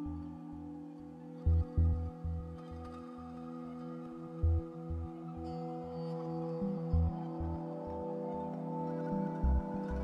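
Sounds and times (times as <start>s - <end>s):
ambient music with pulsing bass: 0.0s - 10.0s.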